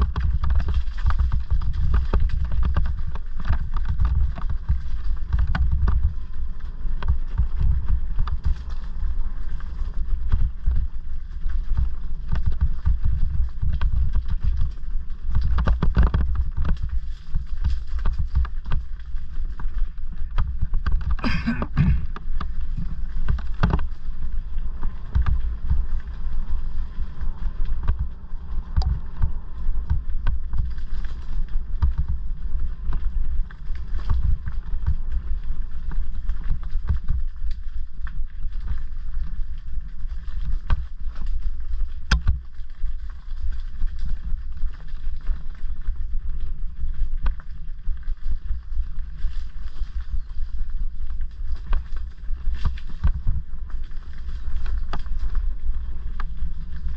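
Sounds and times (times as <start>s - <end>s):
bike rattling over loose stones: 0.0s - 56.9s
wind buffeting helmet microphone: 0.0s - 56.9s.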